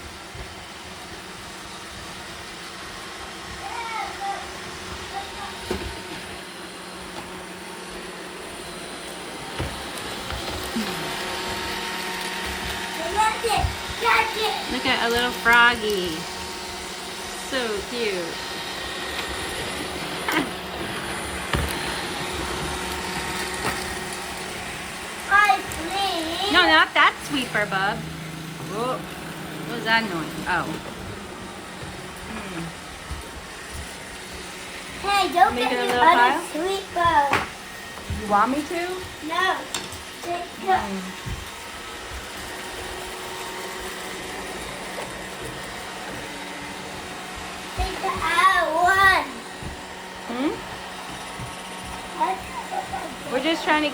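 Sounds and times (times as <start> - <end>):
robot vacuums whirring: 0.0 - 53.9.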